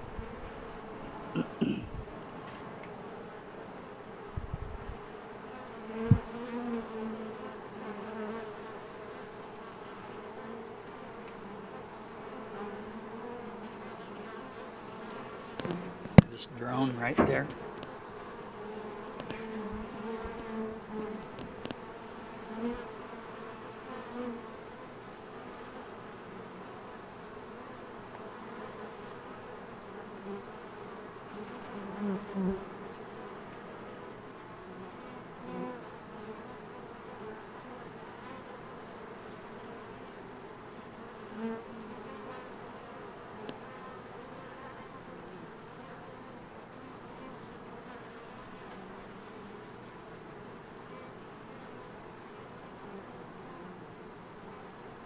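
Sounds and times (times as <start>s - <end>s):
bees buzzing: 0.0s - 55.0s
single bee flying past: 0.0s - 55.0s.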